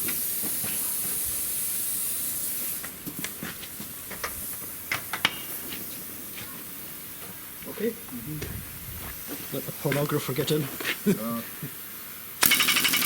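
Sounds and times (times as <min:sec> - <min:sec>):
aerosol can spraying hiss: 0:00.0 - 0:13.0.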